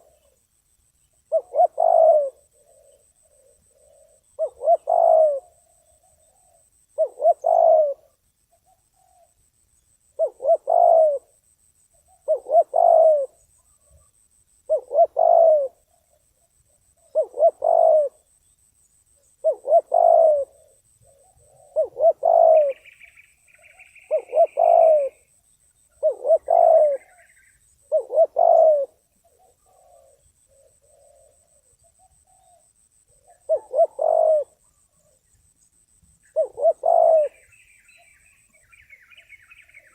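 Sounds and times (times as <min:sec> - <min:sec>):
dove cooing: 0:00.0 - 0:00.4, 0:01.2 - 0:09.4, 0:10.1 - 0:11.4, 0:12.0 - 0:14.1, 0:14.7 - 0:18.3, 0:19.4 - 0:35.4, 0:36.2 - 0:39.9
small bird chirping: 0:00.0 - 0:39.9.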